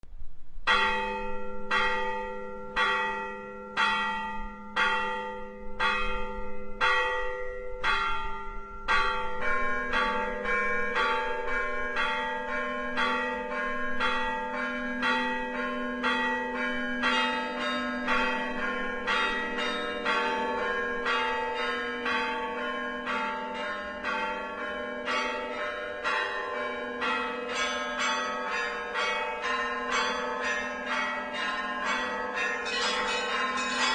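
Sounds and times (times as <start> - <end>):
church bells pealing: 0.7 - 33.9
single church bell striking: 0.7 - 33.9.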